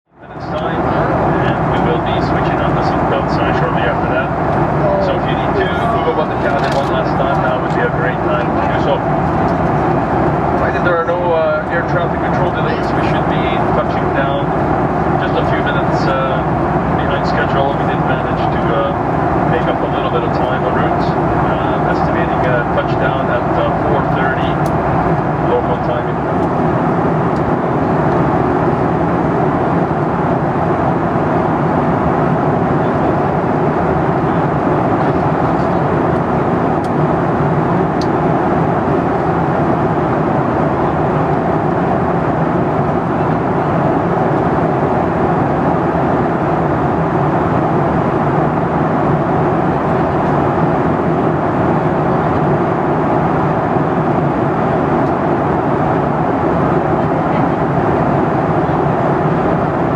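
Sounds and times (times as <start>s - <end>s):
airplane cabin engine rush: 0.1s - 59.9s.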